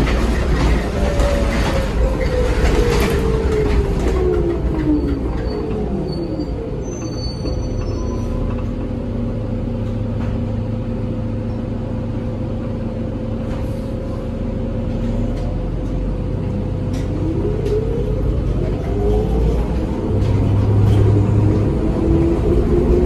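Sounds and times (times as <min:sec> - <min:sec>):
bus engine rumble with whine: 0:00.0 - 0:23.0.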